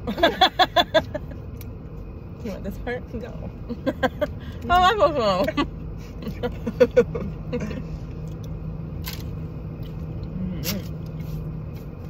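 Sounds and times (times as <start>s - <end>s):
car engine hum from inside: 0.0s - 12.0s.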